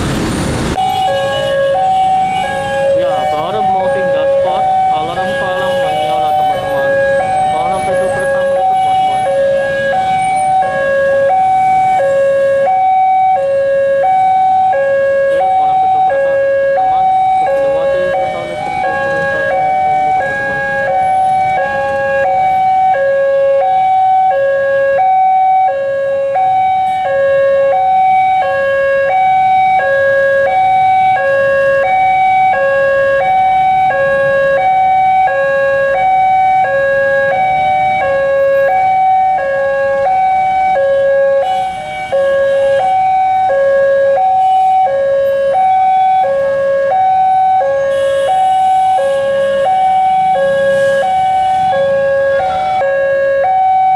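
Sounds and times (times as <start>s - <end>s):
road traffic rumble: 0.0s - 53.9s
two-tone crossing alarm chime: 0.8s - 53.9s.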